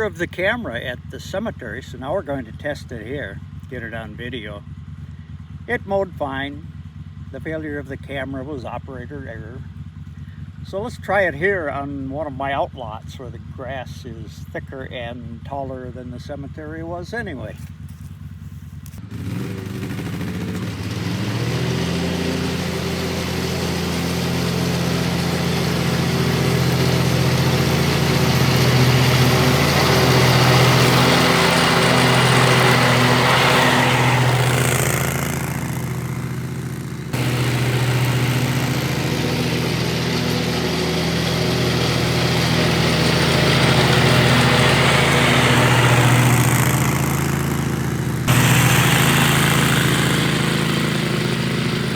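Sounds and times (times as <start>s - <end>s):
lawn mower cutting grass: 0.0s - 6.8s, 17.0s - 51.9s.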